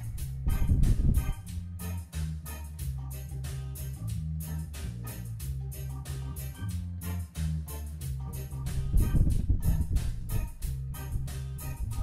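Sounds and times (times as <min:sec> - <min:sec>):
reggae instrumental: 0:00.0 - 0:12.0.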